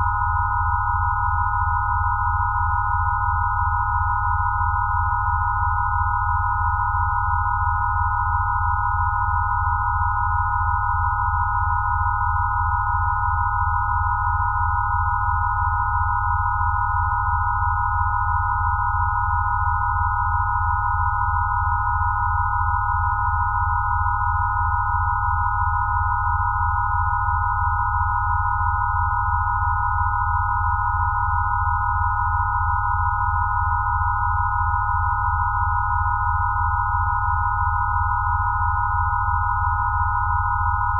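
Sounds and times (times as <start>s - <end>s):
pure sine tones: 0.0s - 40.9s.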